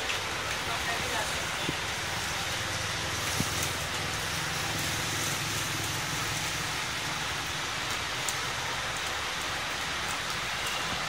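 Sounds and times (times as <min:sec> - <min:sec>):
heavy rain on a street: 0:00.0 - 0:11.0.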